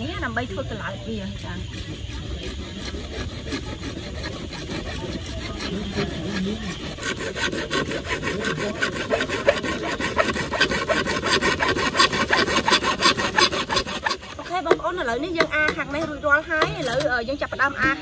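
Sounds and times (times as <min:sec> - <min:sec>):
hacksaw sawing plastic pipe: 0:01.2 - 0:17.1.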